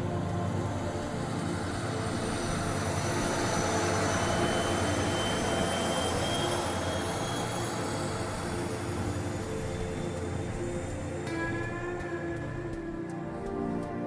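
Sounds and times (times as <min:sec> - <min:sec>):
train rushing on rails: 0:00.0 - 0:13.9
faint high-pitched whines: 0:00.0 - 0:14.0.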